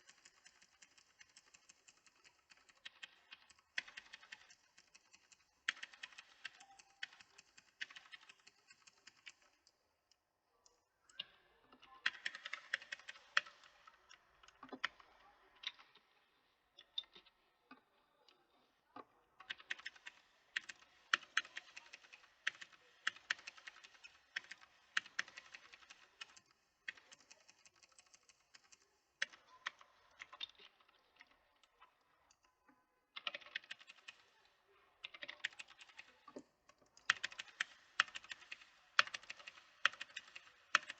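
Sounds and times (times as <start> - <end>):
mechanical keyboard typing: 0.0 - 9.8, 11.8 - 16.0, 19.4 - 32.5, 33.1 - 40.9.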